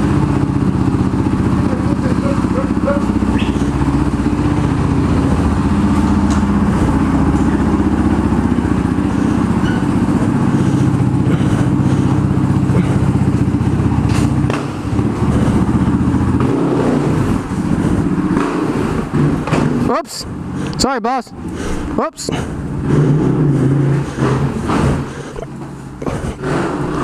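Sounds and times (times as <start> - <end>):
dirt bike engine at low revs: 0.0 - 20.8, 21.4 - 27.0.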